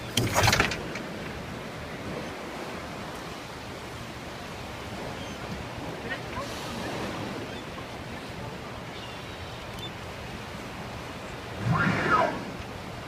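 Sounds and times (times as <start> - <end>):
sea waves: 0.0 - 13.0
wind: 0.0 - 13.0.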